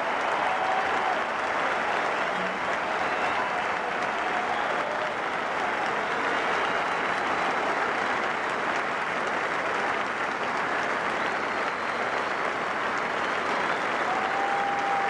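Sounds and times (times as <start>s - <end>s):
stadium crowd applauding: 0.0s - 15.0s.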